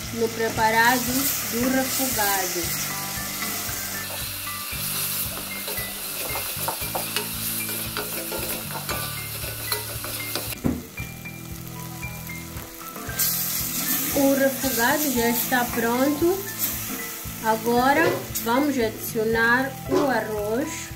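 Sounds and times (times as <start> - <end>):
vegetables sizzling in a pot: 0.0 - 20.9.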